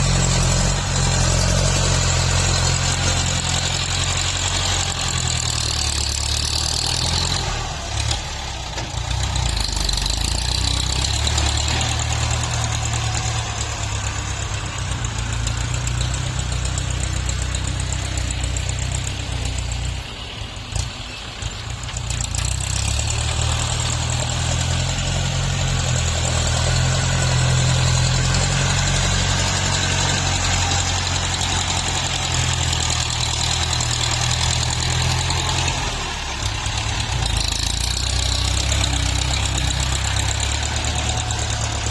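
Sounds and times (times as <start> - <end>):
tractor engines running: 0.0 - 41.9.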